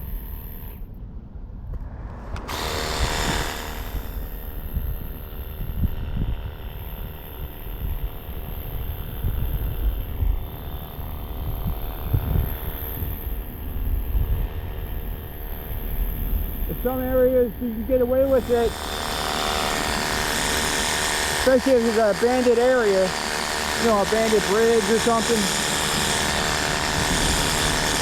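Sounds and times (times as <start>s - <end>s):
pressure washer motor: 0.0s - 0.8s, 2.4s - 28.0s.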